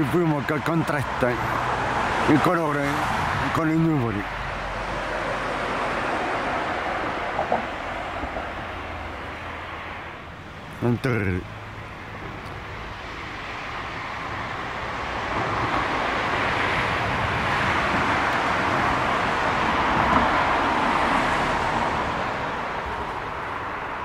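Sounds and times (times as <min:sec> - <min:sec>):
road vehicle passing by: 0:00.0 - 0:24.0.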